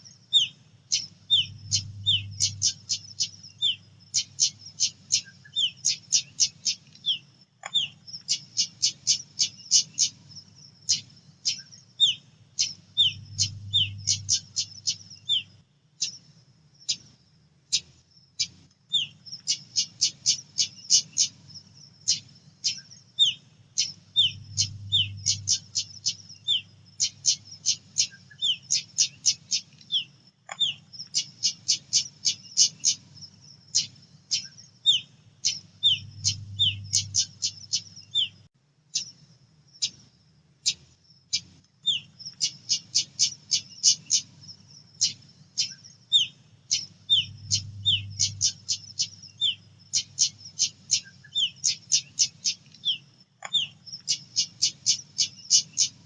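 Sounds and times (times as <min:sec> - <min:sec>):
faint low hum: 0:00.0 - 0:54.4
bird ticking and chirping: 0:00.3 - 0:56.0.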